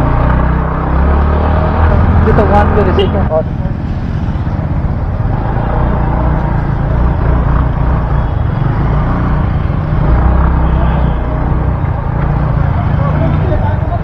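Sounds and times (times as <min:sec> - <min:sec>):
motorcycle engine rumbling: 0:00.0 - 0:14.0
road wind: 0:00.0 - 0:14.0.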